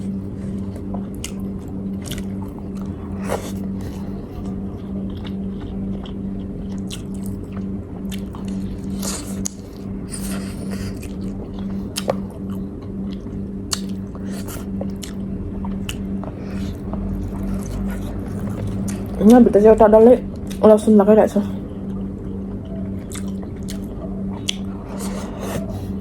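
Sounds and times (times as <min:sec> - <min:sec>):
person chewing food: 0:00.0 - 0:19.3, 0:20.3 - 0:20.6, 0:21.6 - 0:26.0
low hum: 0:00.0 - 0:26.0.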